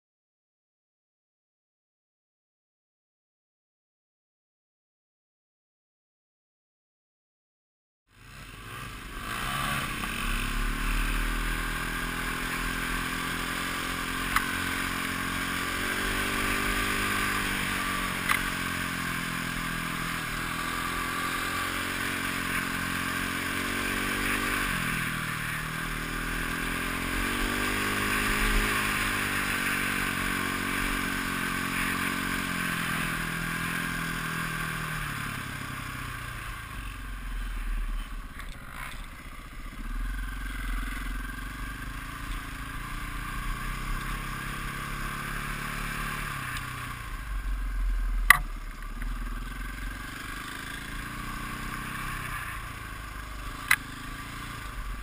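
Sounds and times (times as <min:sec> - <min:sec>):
motorcycle engine revving: 0:08.1 - 0:55.0.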